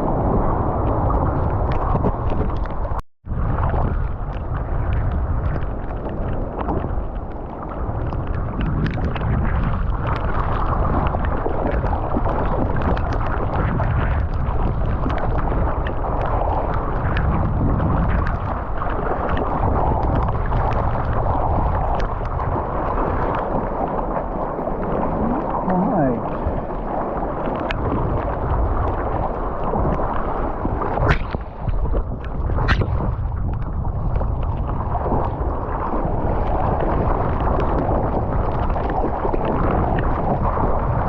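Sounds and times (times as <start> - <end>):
sea water splashing: 0.0 - 41.0
wind buffeting microphone: 0.0 - 41.0.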